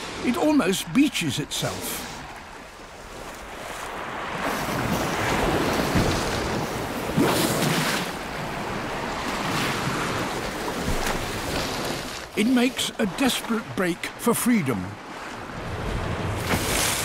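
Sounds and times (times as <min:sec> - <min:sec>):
water rushing and splashing: 0:00.0 - 0:17.0.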